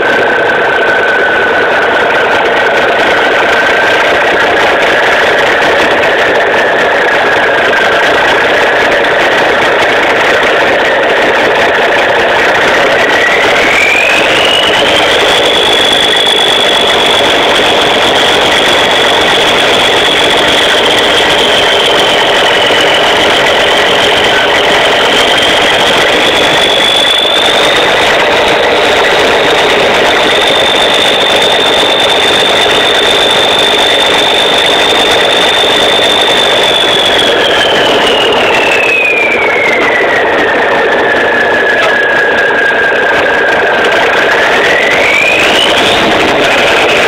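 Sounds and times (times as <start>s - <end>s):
diesel truck engine running: 0.0s - 47.0s
turbocharger whistle: 0.0s - 47.0s.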